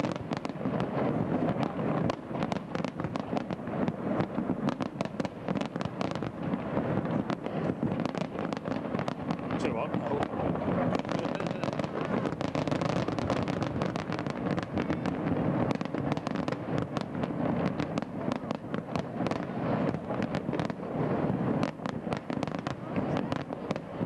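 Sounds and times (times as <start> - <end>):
fireworks crackling and banging: 0.0 - 24.0.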